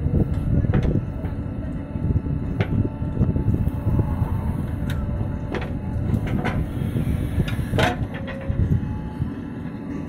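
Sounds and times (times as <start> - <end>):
diesel engine under load: 0.0 - 10.0.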